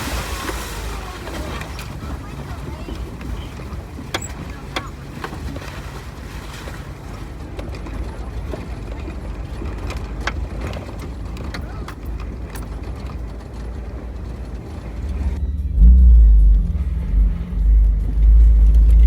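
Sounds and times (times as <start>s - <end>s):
engine and tyres rumbling: 0.0s - 19.0s
body and gear rattling: 0.1s - 16.0s.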